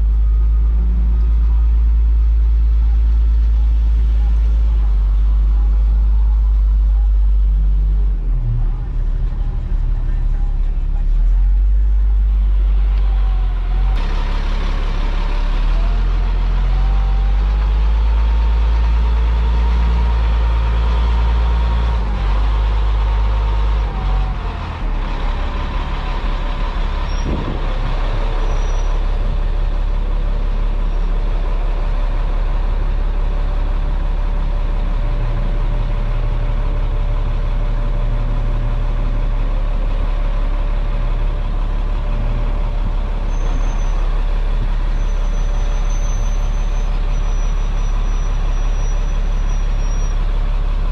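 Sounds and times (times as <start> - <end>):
road noise: 0.0 - 50.9
tow truck engine running: 0.0 - 50.9.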